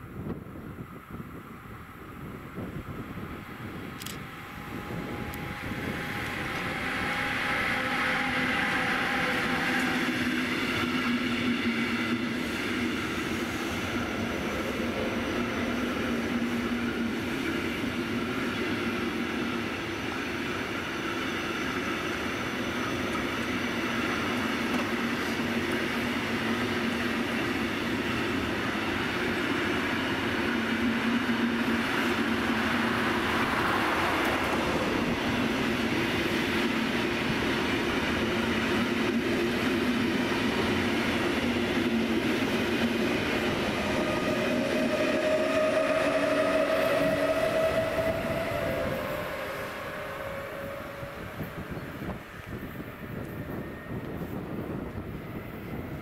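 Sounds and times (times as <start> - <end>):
locomotive whine: 0.0 - 56.0
train wheels rumbling on rail: 0.0 - 56.0.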